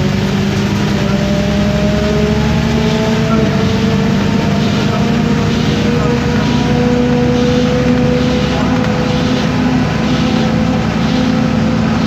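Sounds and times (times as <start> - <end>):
bus diesel engine running: 0.0 - 12.0
drivetrain whine: 0.0 - 12.0.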